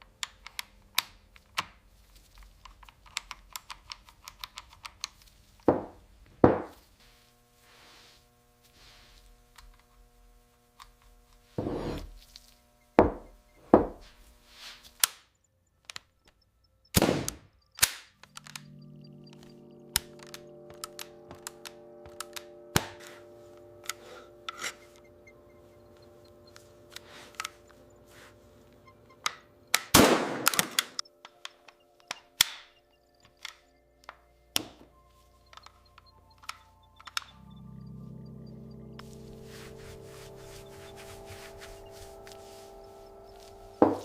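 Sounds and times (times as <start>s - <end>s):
steady hum with held tones: 4.4s - 44.0s.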